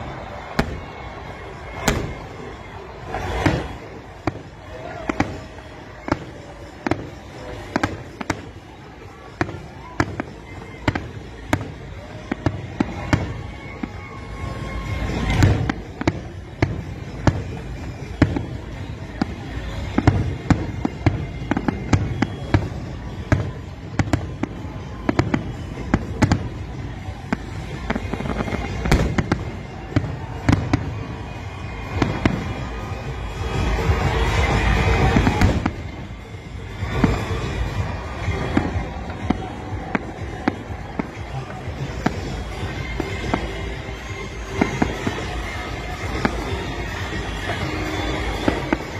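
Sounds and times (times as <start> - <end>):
fireworks bangs and crackling: 0.0 - 48.9.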